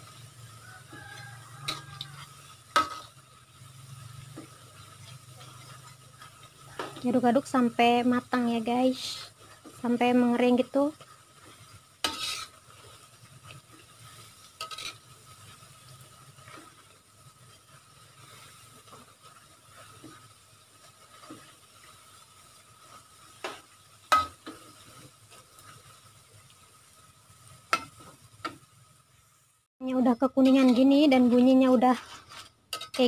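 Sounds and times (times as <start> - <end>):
metal spoon scraping wok: 0.0 - 26.1, 30.1 - 33.0
faint frying sizzle: 0.0 - 33.0.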